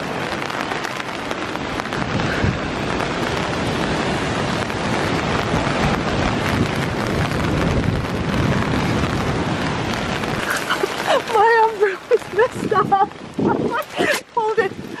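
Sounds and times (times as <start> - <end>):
breaking surf: 0.0 - 15.0
rain: 0.0 - 15.0
strong wind buffeting microphone: 0.0 - 15.0.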